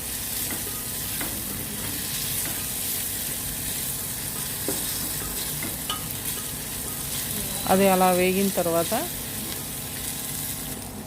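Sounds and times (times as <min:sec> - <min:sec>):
onions sizzling in a pot: 0:00.0 - 0:11.0.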